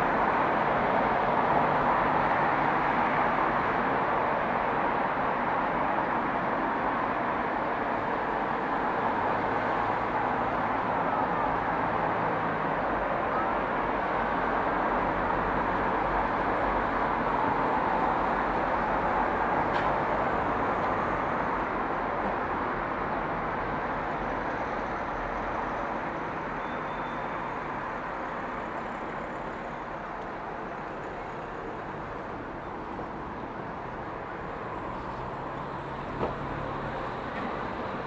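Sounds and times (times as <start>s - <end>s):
distant road traffic hum: 0.0s - 38.0s.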